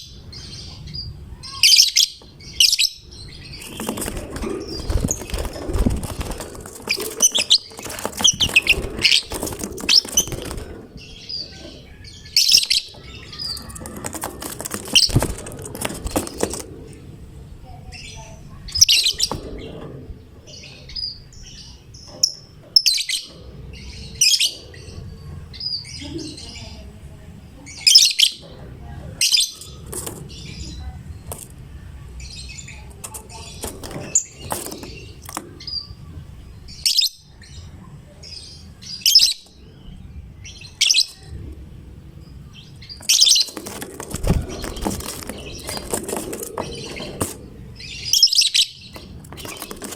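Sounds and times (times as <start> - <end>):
bird chirping and chattering: 0.0 - 27.0, 27.6 - 49.9.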